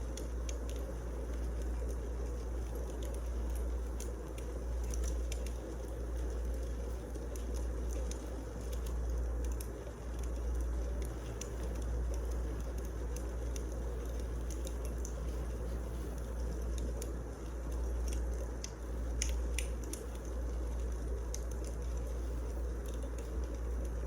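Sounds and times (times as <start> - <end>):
fire crackling and popping: 0.0 - 24.0
fire rumbling and hissing: 0.0 - 24.0.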